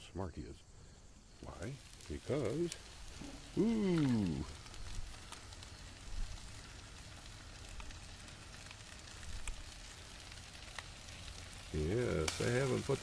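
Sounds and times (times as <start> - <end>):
chicken sizzling on a grill: 0.3 - 13.0.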